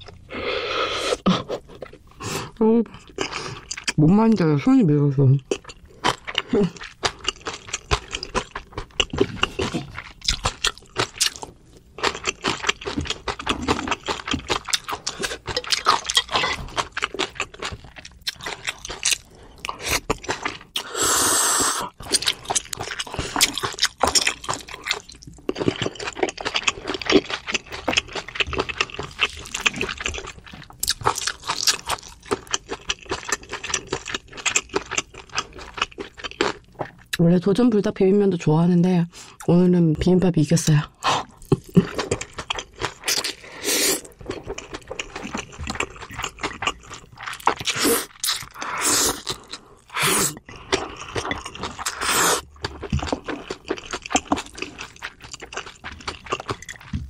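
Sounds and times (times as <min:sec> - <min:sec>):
chewing crunches: 0:05.5 - 0:20.9, 0:21.6 - 0:37.2, 0:41.0 - 0:57.0.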